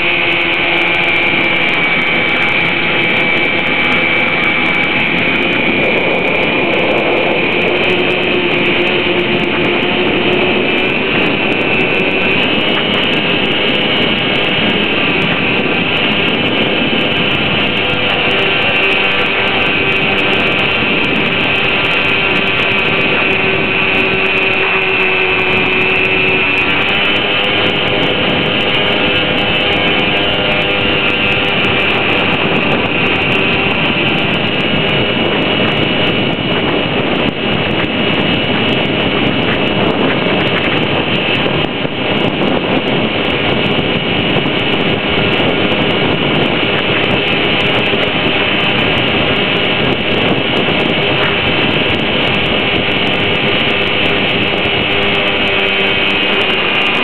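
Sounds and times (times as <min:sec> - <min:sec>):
boat motor whine: 0:00.0 - 0:57.0
water rushing against hull: 0:00.0 - 0:57.0.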